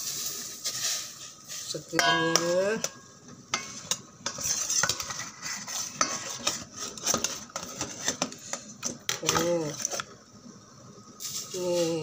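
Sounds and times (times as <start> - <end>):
broth boiling in a pot: 0.0 - 12.0.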